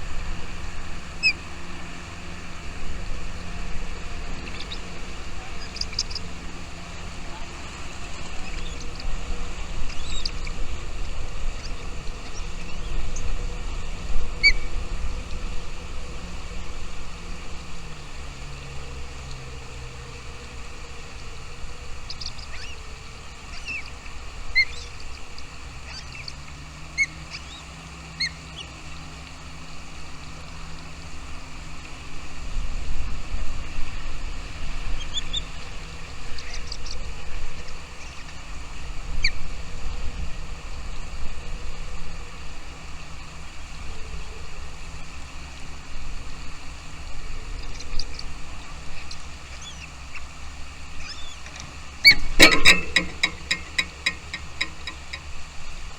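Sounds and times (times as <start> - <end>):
low rumble and hum: 0.0 - 55.9.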